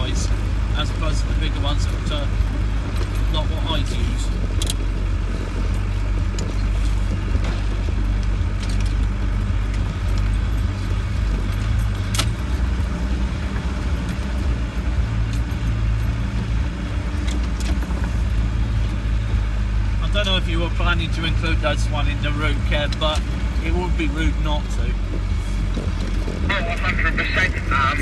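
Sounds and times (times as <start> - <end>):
body clicks and rattles: 0.0 - 28.0
low engine drone: 0.0 - 28.0.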